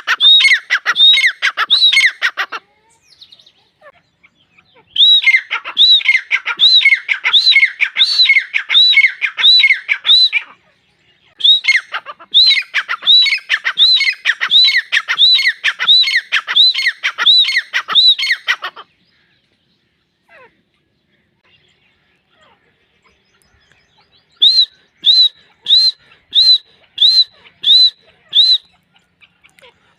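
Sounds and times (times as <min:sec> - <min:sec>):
bird calling shrilly: 0:00.0 - 0:19.3, 0:22.3 - 0:29.9.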